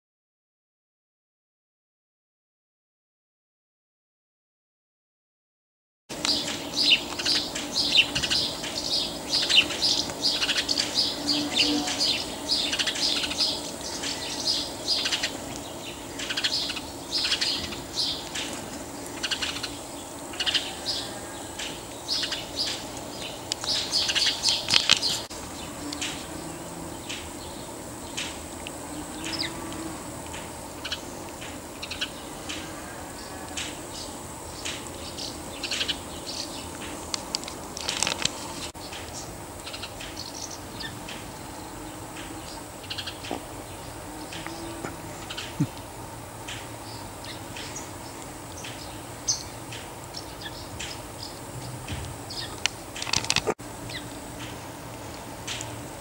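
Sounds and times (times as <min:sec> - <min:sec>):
birds chirping and twittering: 0:06.1 - 0:56.0
faint steady hum: 0:06.1 - 0:56.0.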